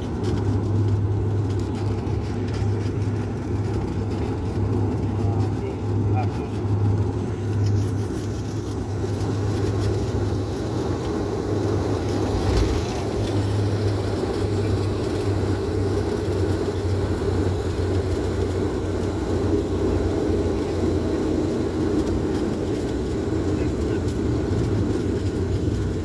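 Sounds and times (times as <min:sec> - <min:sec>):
airliner cabin engine hum: 0:00.0 - 0:26.0.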